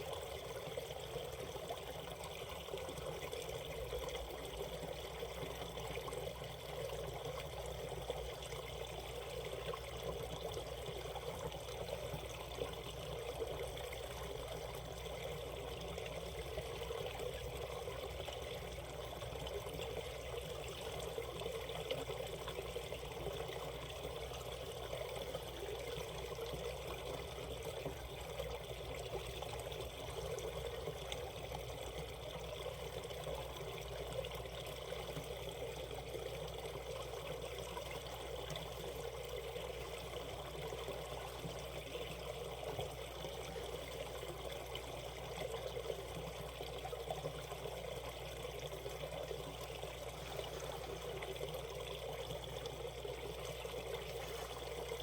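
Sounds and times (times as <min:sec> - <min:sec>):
stream water flowing over rocks: 0:00.0 - 0:55.0.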